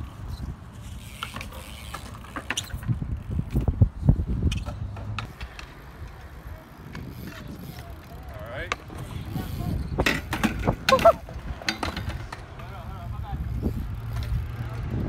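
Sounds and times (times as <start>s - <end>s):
bike creaks and clicks: 0.0s - 15.0s
bike tyres rolling on concrete: 0.0s - 15.0s.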